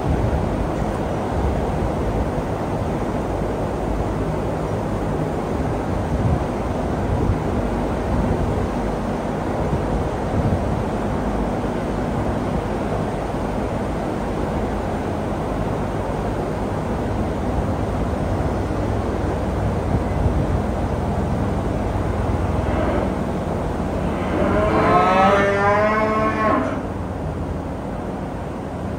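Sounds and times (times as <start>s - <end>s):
wind and road noise: 0.0s - 28.9s.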